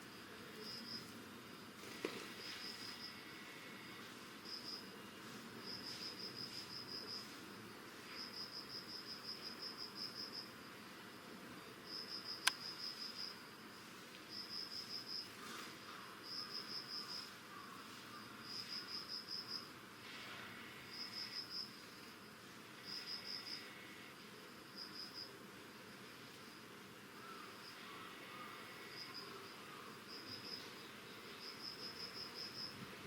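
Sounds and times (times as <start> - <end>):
insect chirping: 0.0 - 7.4, 8.0 - 11.2, 11.8 - 32.8.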